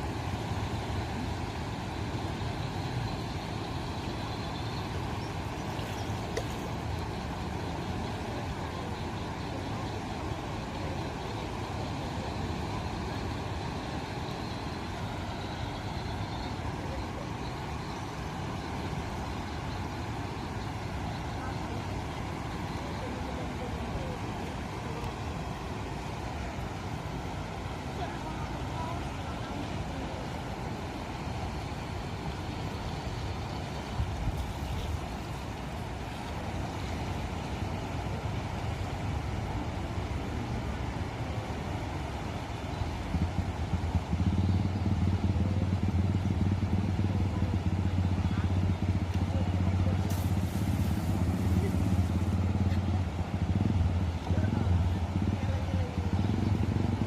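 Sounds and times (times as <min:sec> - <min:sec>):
floodwater rushing through weir gates: 0:00.0 - 0:57.0.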